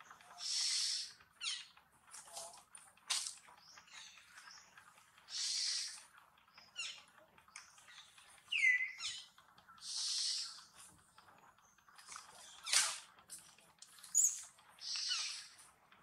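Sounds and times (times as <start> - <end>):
birds chirping: 0.0 - 2.5, 3.4 - 13.1, 13.9 - 15.8.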